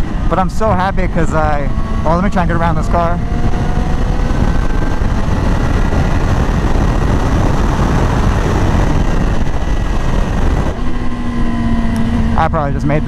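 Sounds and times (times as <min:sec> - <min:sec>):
motorcycle engine accelerating: 0:00.0 - 0:13.0
wind rush on microphone: 0:00.0 - 0:13.0.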